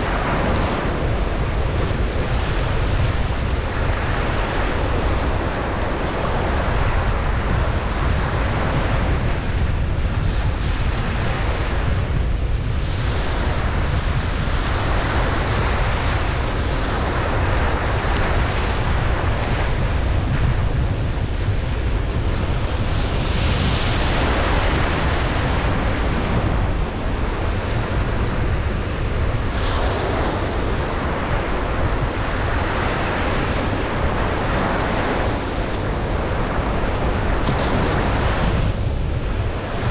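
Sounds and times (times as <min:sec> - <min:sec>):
low wind rumble on microphone: 0:00.0 - 0:39.9
ocean waves breaking: 0:00.0 - 0:39.9.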